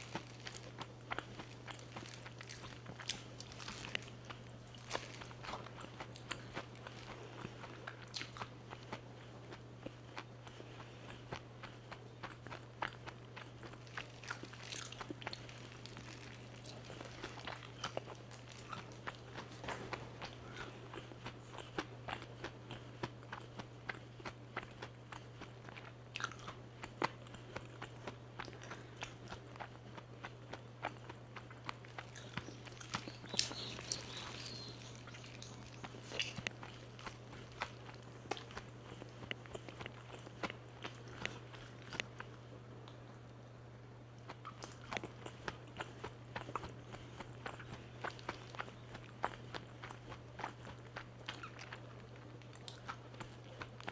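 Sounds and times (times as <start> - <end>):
chewing crispy fried chicken: 0.0 - 53.9
steady low hum: 0.0 - 53.9.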